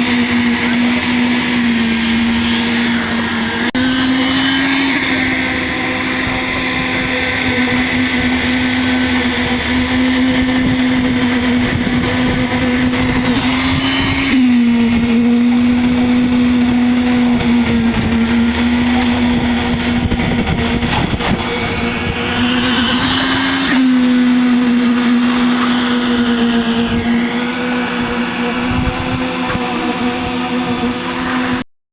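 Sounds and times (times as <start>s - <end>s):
motor humming: 0.0s - 31.7s.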